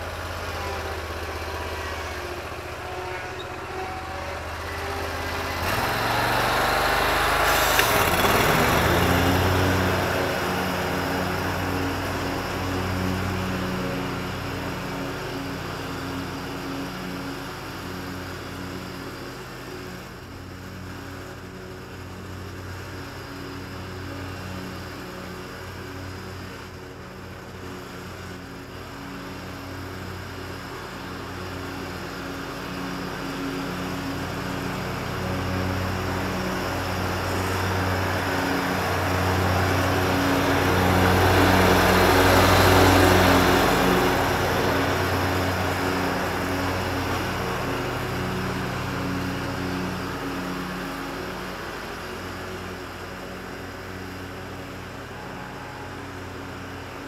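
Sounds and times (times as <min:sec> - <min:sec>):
riding mower engine: 0:00.0 - 0:57.0.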